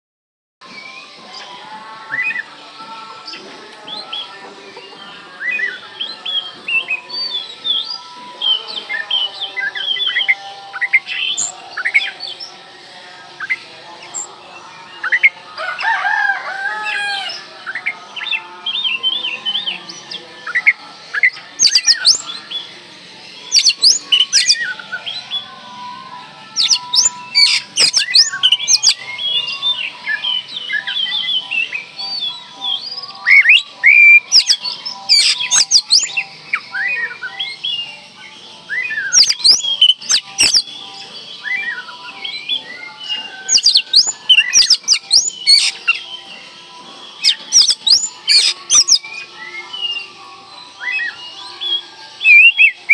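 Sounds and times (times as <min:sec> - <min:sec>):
bird singing varied song: 0:00.6 - 0:52.9.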